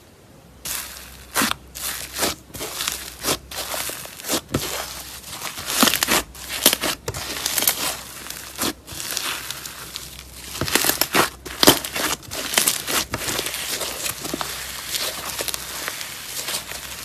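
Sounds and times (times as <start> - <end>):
slime crackling and popping: 0.7 - 17.0.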